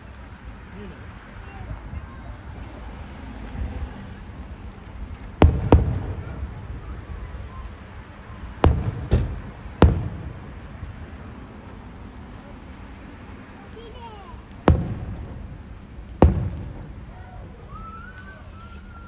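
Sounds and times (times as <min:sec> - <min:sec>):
firework shells booming: 0:02.7 - 0:19.0.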